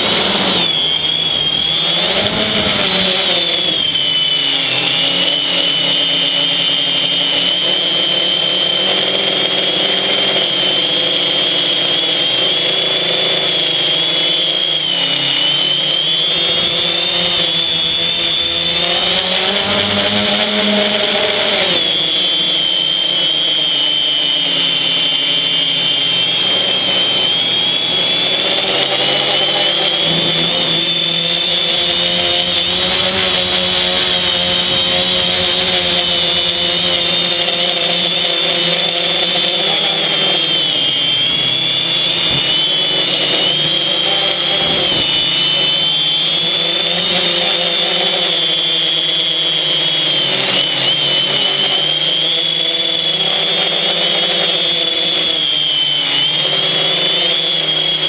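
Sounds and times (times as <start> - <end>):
drone motors and propellers whining: 0.0 - 58.0.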